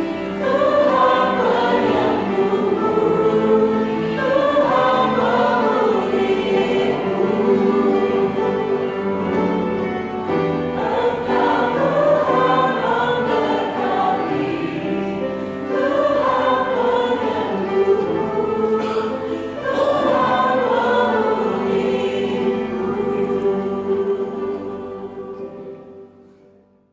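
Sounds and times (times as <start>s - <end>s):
choir singing gospel song: 0.0s - 26.5s
instrumental accompaniment: 0.0s - 26.8s.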